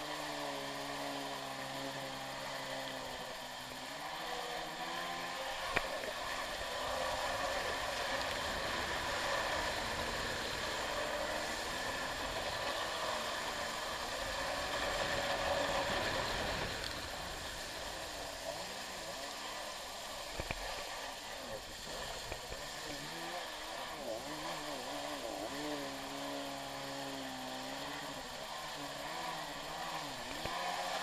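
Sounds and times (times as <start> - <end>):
jet ski engine running: 0.0 - 31.0
rush of spray and water: 0.0 - 31.0.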